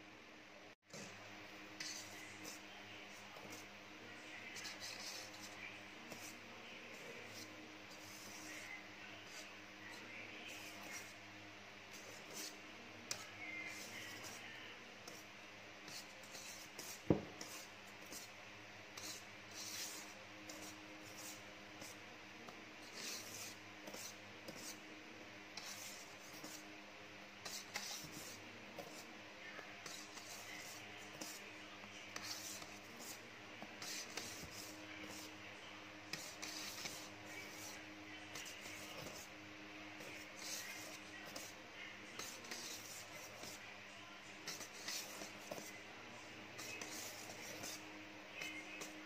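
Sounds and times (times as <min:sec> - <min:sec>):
whisk swishing and scraping bowl: 0:00.9 - 0:11.2, 0:11.9 - 0:22.0, 0:22.8 - 0:24.8, 0:25.5 - 0:26.7, 0:27.4 - 0:35.5, 0:36.1 - 0:39.3, 0:40.0 - 0:43.7, 0:44.4 - 0:45.8, 0:46.5 - 0:49.0.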